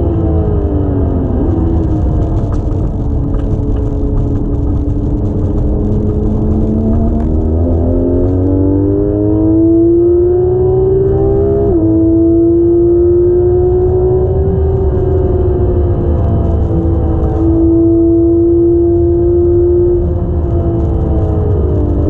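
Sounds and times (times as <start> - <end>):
car engine accelerating: 0.0 - 22.0
road and tyre rumble: 0.0 - 22.0.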